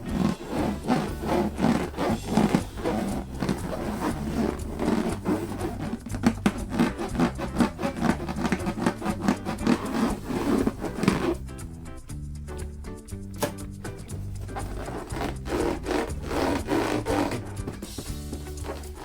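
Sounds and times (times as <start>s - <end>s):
balloons squeaking: 0.0s - 19.0s
hands rubbing balloons: 0.0s - 19.0s
quiet background music: 0.0s - 19.0s.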